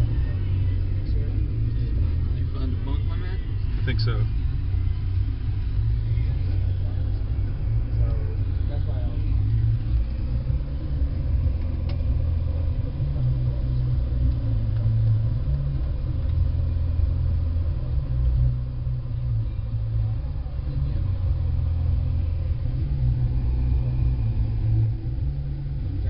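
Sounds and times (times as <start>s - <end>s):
bus engine rumble: 0.0s - 26.0s.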